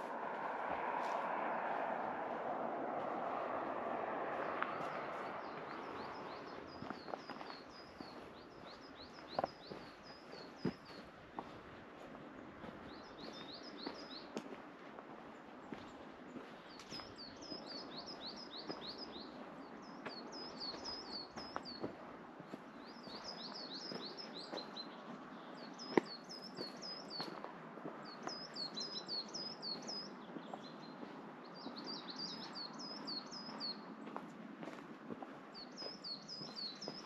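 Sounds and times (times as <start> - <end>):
songbird chirping: 0.0 - 37.0.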